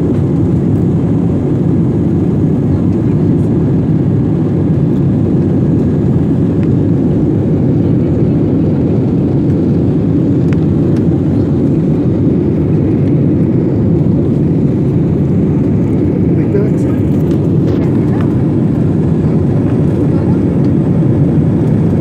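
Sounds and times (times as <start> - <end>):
jet engines roaring in cabin: 0.0 - 22.0.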